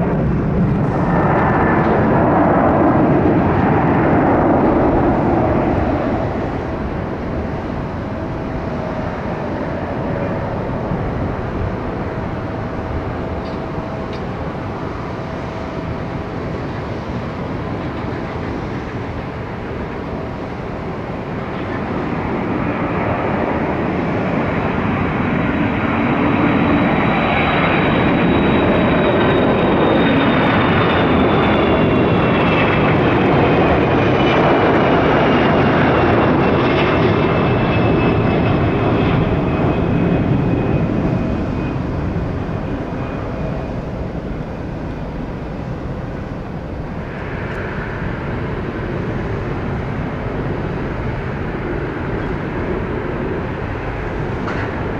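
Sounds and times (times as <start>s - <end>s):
high fan whine: 0.0s - 54.9s
jet engines roaring at takeoff: 0.0s - 54.9s.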